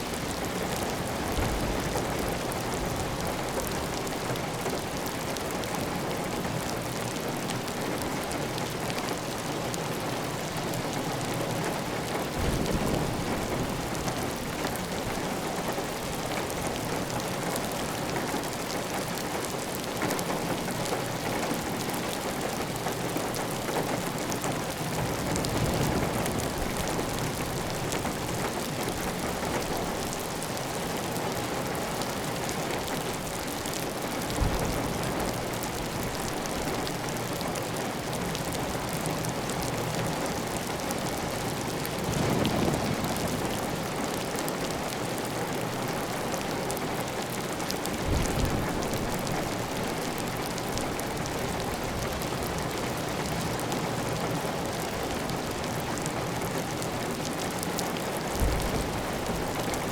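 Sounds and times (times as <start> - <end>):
heavy rain on a tiled roof: 0.0 - 59.9.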